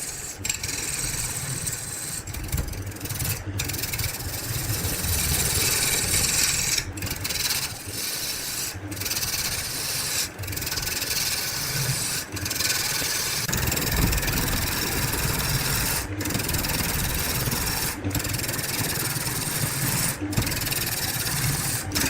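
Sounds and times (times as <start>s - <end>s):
lathe motor hum: 0.0s - 22.0s
turning tool rasping wood: 0.0s - 22.0s.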